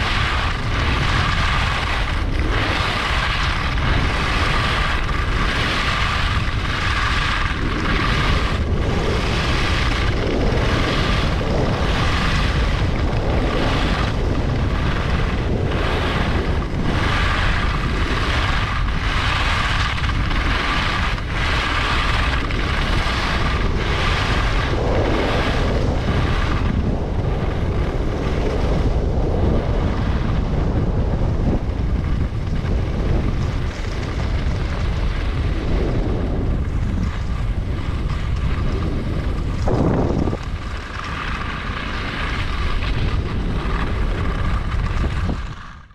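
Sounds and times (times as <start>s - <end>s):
skis scraping on snow: 0.0s - 45.9s
wind rumble on microphone: 0.0s - 45.9s.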